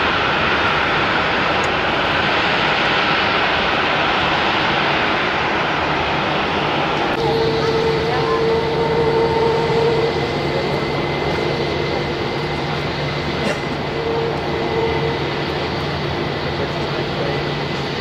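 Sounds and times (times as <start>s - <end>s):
distant jet engines running: 0.0s - 18.0s.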